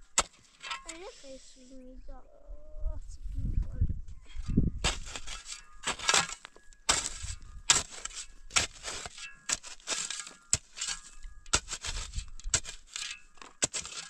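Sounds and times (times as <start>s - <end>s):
shovel digging stony soil: 0.0s - 1.7s, 4.3s - 14.0s.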